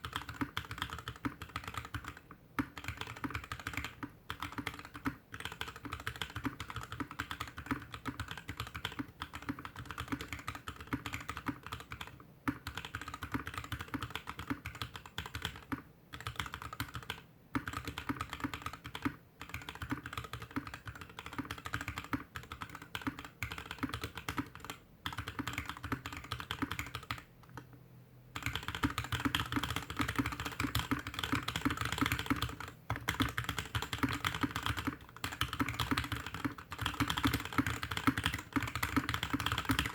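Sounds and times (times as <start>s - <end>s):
mechanical keyboard typing: 0.0s - 27.8s, 28.4s - 39.9s.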